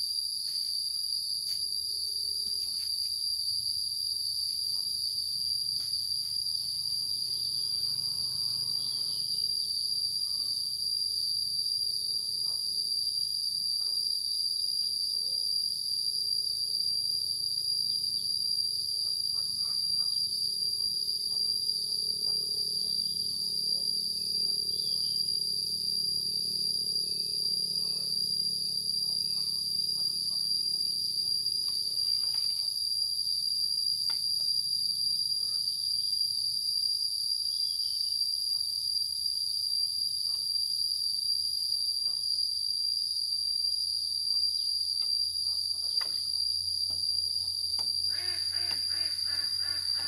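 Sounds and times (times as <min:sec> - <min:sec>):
insects droning: 0:00.0 - 0:50.0.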